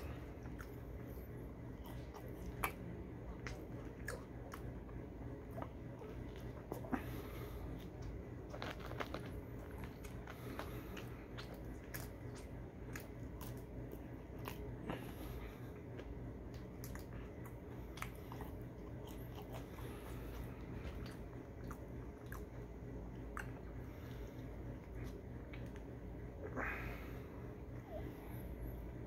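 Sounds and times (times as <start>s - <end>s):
chewing with mouth clicks and crunches: 0.0s - 26.4s
steady low hum: 0.0s - 29.0s.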